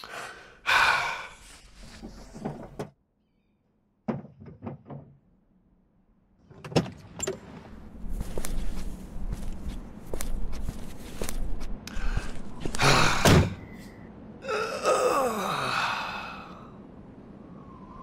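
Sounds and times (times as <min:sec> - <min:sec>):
outside noise: 0:00.0 - 0:18.0.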